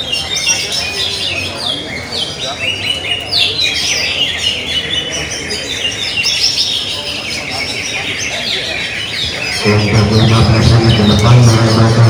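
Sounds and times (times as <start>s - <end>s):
caged songbirds chorus: 0.0s - 12.0s.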